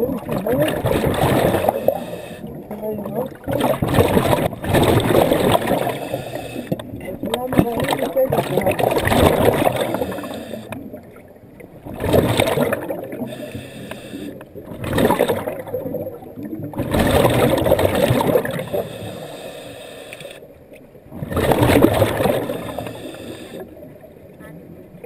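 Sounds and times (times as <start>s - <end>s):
underwater bubbles from regulator: 0.0s - 19.4s, 20.8s - 25.0s.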